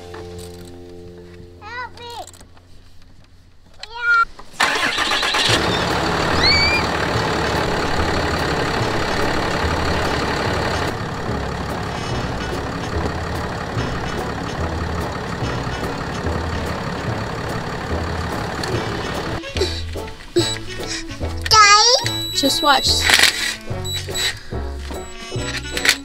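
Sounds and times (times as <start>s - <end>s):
diesel engine idling: 4.6s - 26.0s.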